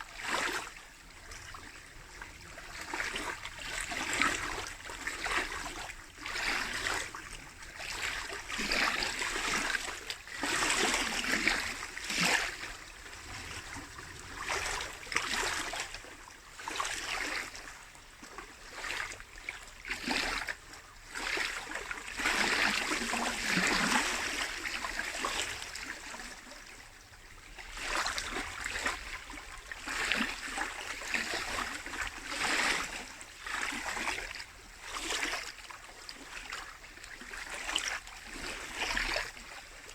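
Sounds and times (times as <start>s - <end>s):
lake waves lapping at shore: 0.0s - 39.9s.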